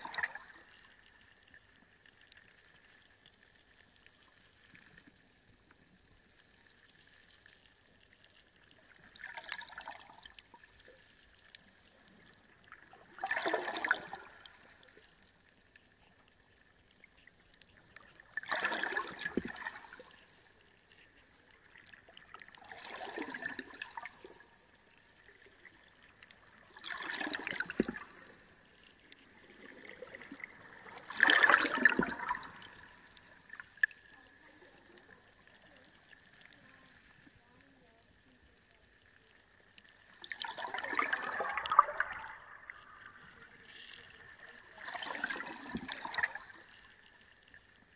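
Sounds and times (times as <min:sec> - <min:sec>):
aquarium water surging and splashing: 0:00.0 - 0:04.9, 0:06.9 - 0:15.1, 0:16.8 - 0:47.9.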